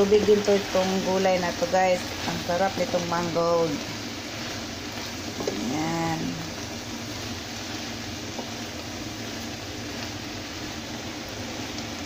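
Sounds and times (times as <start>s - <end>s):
leaves sizzling in a pan: 0.0s - 12.0s.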